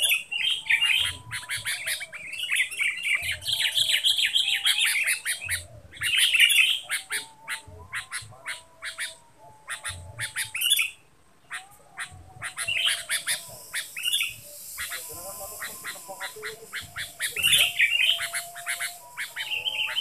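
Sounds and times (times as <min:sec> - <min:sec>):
bird chirping and warbling: 0:00.0 - 0:20.0.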